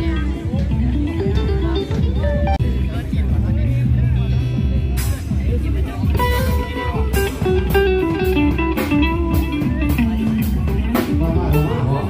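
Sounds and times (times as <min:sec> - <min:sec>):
bass guitar: 0:00.0 - 0:12.0
drum kit: 0:00.0 - 0:12.0
electric guitar melody: 0:00.0 - 0:12.0.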